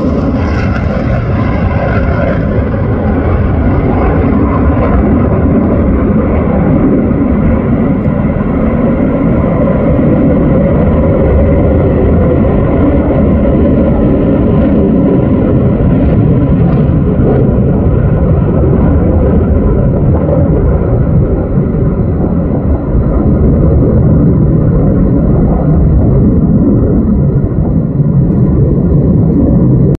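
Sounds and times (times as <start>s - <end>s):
fighter jet passing overhead: 0.0s - 30.0s.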